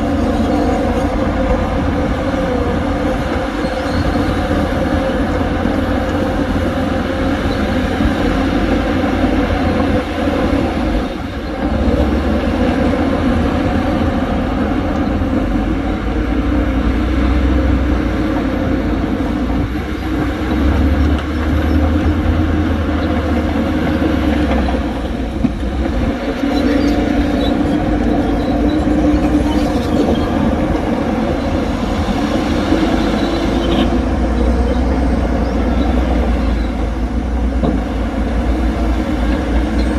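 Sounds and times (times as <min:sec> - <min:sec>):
diesel machinery engine rumble: 0:00.0 - 0:39.9.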